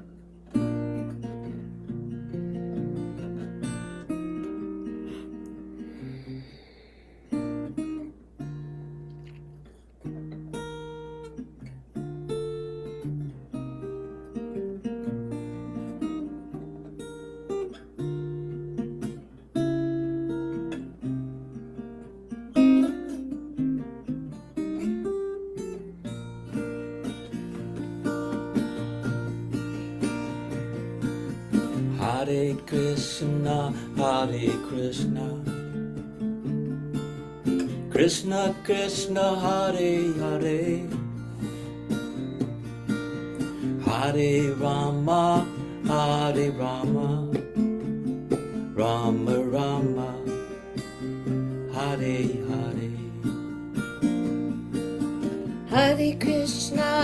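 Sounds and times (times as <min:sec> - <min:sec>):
acoustic guitar melody: 0:00.0 - 0:57.0.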